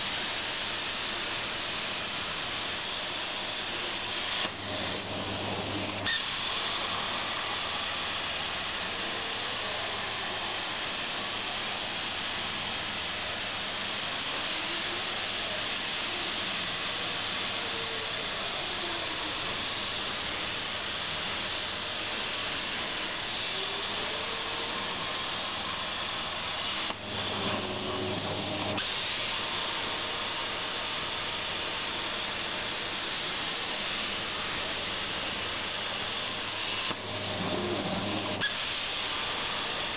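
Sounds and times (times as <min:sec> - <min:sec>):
faint whine of torch: 0:00.0 - 0:39.9
plasma cutter arc hissing: 0:00.0 - 0:39.9.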